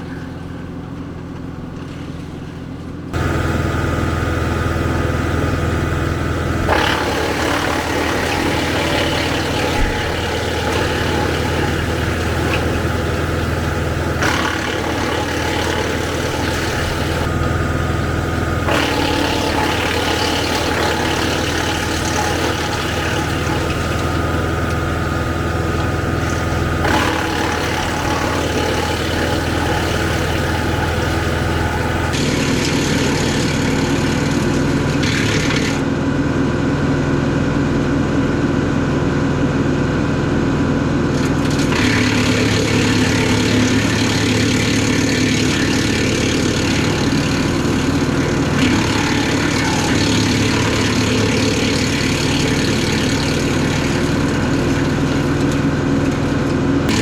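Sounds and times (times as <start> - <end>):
tractor diesel engine running: 0.0 - 57.0
wood chipper humming: 0.0 - 57.0.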